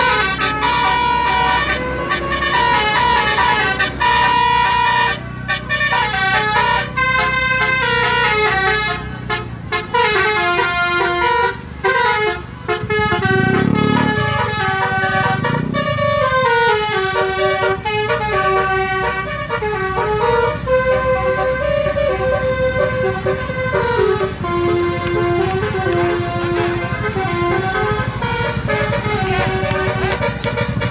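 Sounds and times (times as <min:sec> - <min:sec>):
musical air horn melody: 0:00.0 - 0:30.9.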